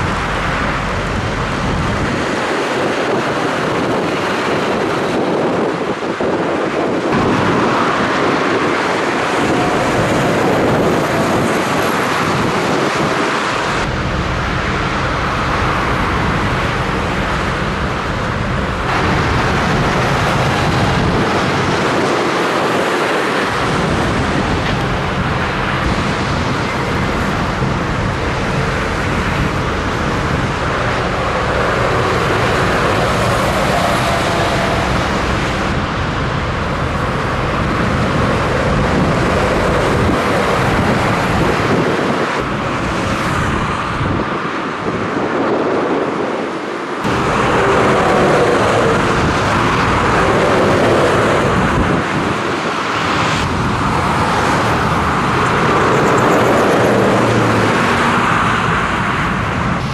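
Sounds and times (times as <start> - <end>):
motorway traffic passing at speed: 0.0 - 59.9.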